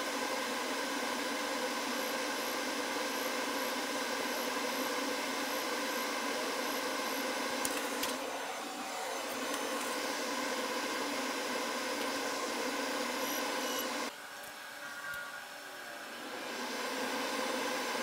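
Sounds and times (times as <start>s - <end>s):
hot air station hissing: 0.0s - 18.0s.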